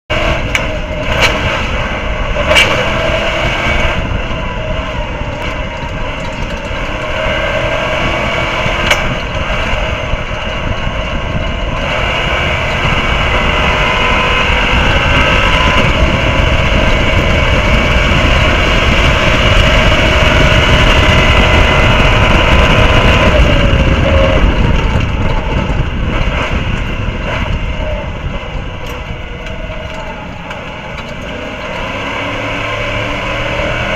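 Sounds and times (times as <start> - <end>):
road rumble: 0.0 - 33.9
truck engine running hard: 0.1 - 33.9
wind on microphone: 0.1 - 33.9.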